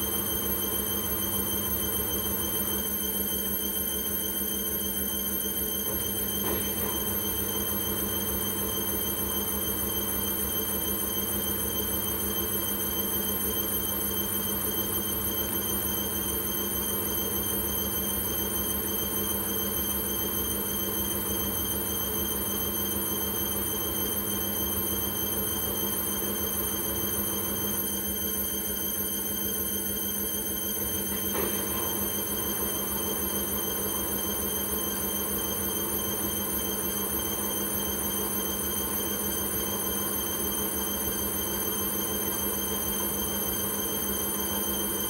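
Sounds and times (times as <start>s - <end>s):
washing machine spinning: 0.0s - 45.0s.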